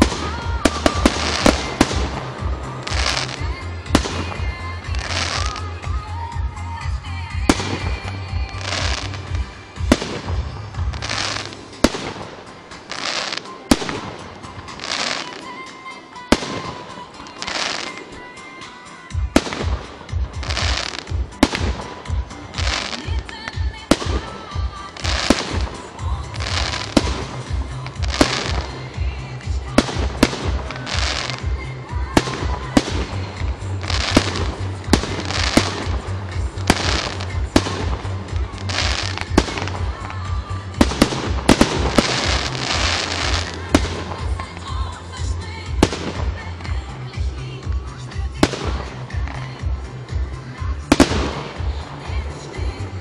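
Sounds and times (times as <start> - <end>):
fireworks bangs: 0.0 - 49.9, 50.5 - 53.0
fireworks hissing and crackling: 0.0 - 53.0.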